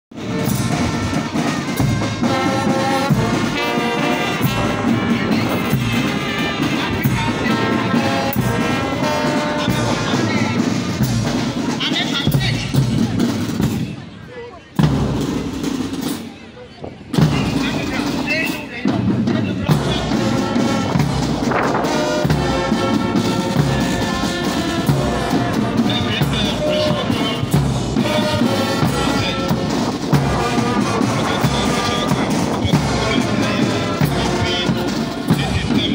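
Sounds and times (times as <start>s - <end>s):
brass band playing: 0.1s - 14.2s, 14.8s - 16.4s, 17.1s - 35.9s.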